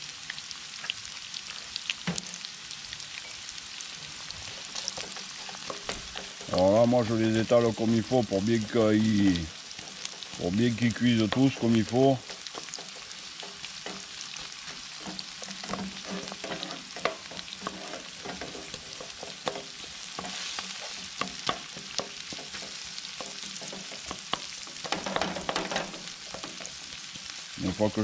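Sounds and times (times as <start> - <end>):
onions sizzling in a frying pan: 0.0 - 28.0
wooden spatula scraping a pan: 4.0 - 27.9.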